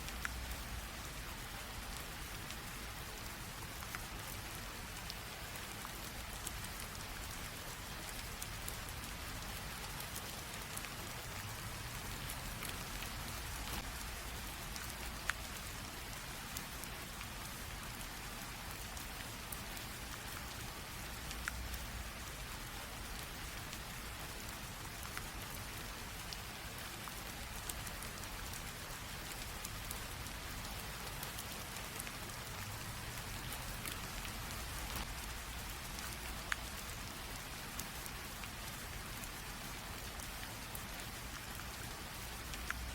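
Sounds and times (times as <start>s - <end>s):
light rain hissing: 0.0s - 42.9s
sharp water drips: 0.1s - 42.9s.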